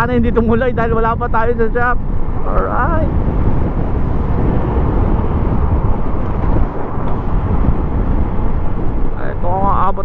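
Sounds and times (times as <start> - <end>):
moving vehicle rumble: 0.0 - 10.0.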